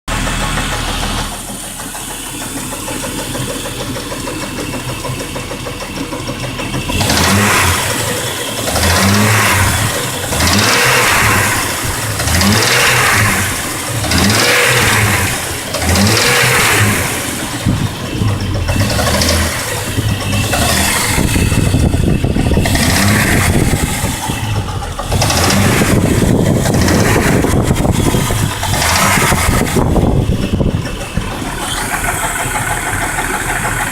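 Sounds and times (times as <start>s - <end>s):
car engine idling and revving: 0.0s - 33.9s
engine clattering: 0.1s - 33.9s.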